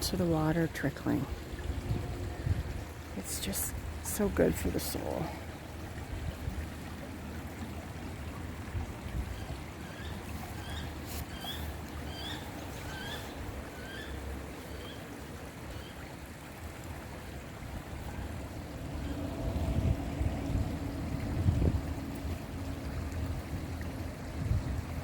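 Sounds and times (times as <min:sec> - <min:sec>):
stream flowing over rocks: 0:00.0 - 0:25.0.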